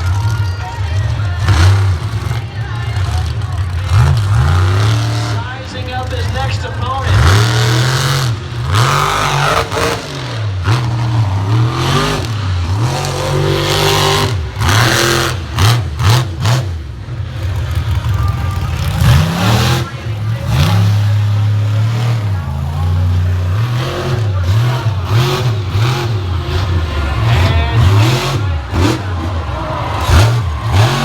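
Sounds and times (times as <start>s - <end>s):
truck engine revving: 0.0s - 31.0s.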